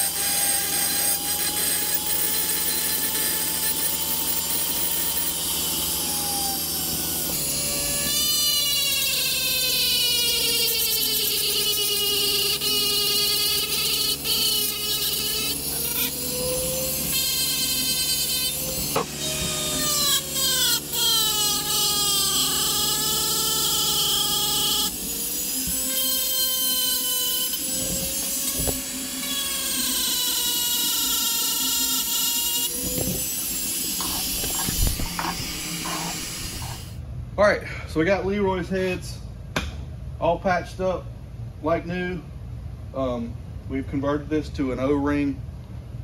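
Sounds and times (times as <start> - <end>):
die grinder whining on metal: 0.0 - 37.0.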